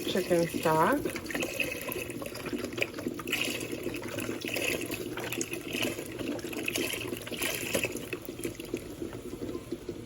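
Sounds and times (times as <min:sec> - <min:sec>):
liquid pouring with splashing: 0:00.0 - 0:10.0.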